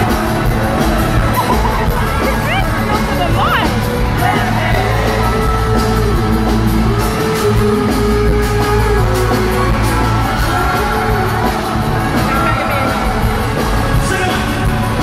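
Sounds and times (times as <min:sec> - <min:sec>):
lead singer singing: 0:00.0 - 0:15.0
live pop-rock band: 0:00.0 - 0:15.0.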